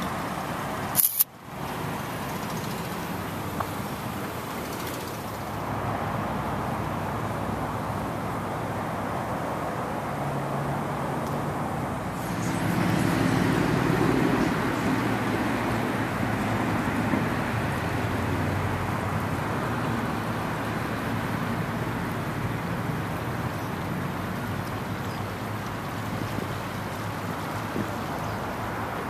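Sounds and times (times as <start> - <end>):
steady traffic rumble: 0.0 - 29.0
vehicle engine hum: 0.0 - 29.0.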